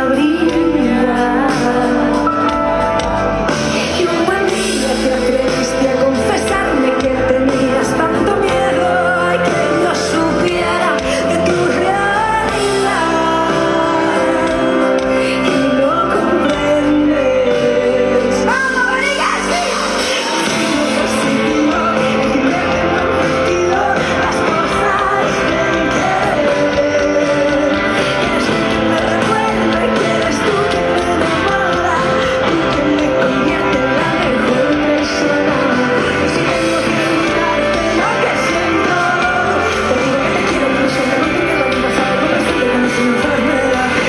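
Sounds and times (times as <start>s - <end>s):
live pop band over loudspeakers: 0.0s - 44.0s.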